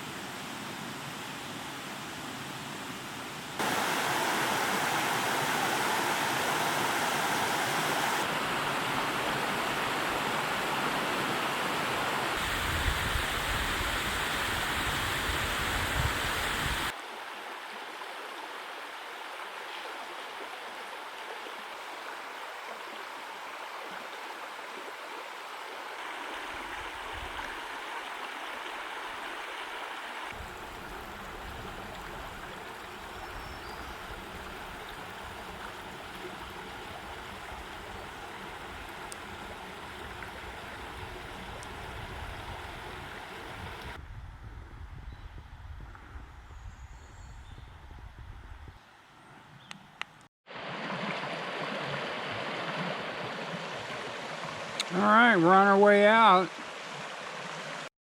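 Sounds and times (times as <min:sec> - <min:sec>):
creek water rushing: 0:00.0 - 0:44.0, 0:50.5 - 0:57.9.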